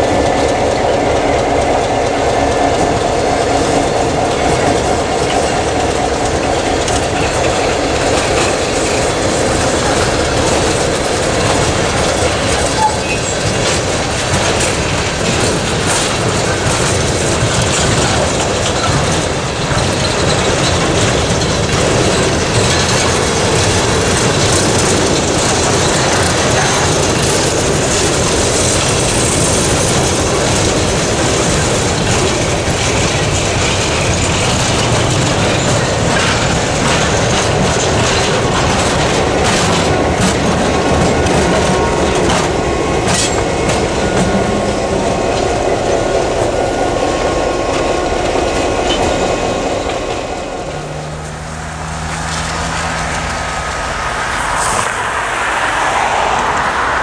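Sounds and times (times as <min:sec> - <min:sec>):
diesel locomotive passing: 0:00.0 - 0:57.0
train wheels clacking over rail joints: 0:00.0 - 0:57.0.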